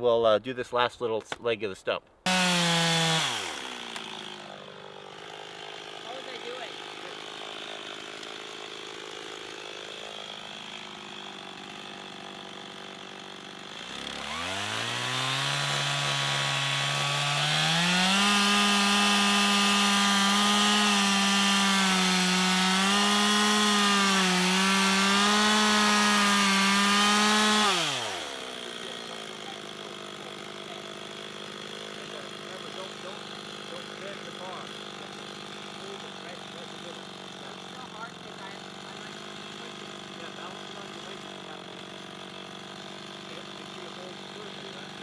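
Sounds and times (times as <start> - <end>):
chainsaw idling and revving: 2.2 - 45.0.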